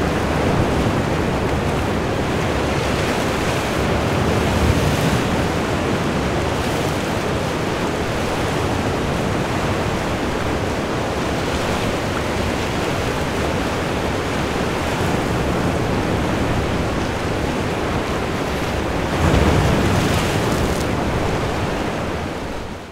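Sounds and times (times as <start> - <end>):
ocean surf over rocks: 0.0 - 22.9.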